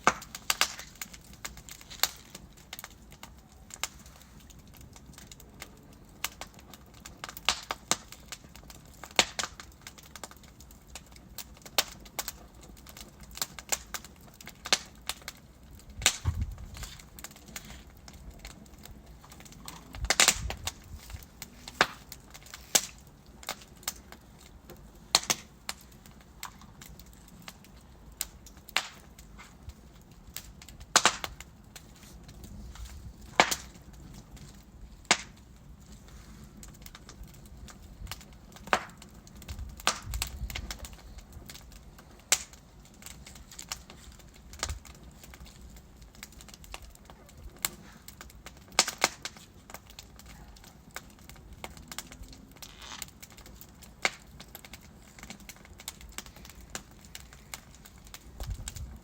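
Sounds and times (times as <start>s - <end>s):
burning logs popping and snapping: 0.0s - 59.0s
low hiss of flames: 0.0s - 59.0s.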